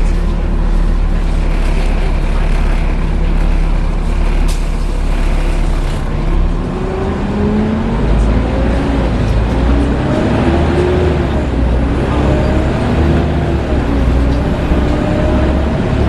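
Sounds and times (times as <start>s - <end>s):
bus accelerating whine: 0.0s - 16.0s
bus engine drone: 0.0s - 16.0s.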